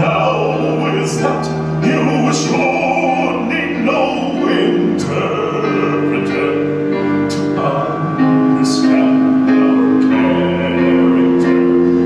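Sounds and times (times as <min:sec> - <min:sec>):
orchestral accompaniment: 0:00.0 - 0:10.4
man singing a show tune: 0:00.0 - 0:12.0.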